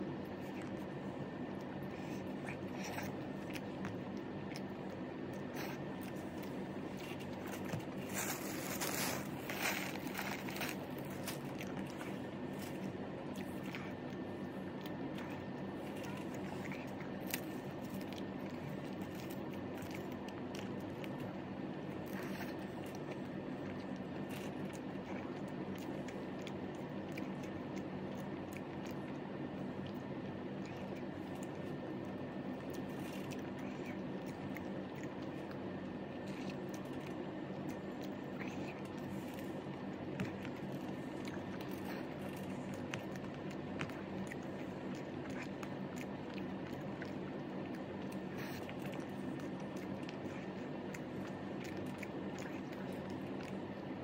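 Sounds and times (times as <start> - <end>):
chewing and food squishes: 0.0 - 54.0
fingers mixing rice: 0.0 - 54.0
steady low hum: 0.0 - 54.0.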